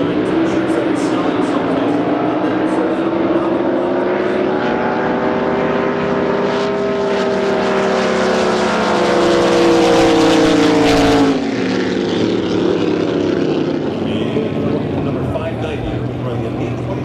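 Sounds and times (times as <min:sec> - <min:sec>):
boat engine at full throttle: 0:00.0 - 0:17.0.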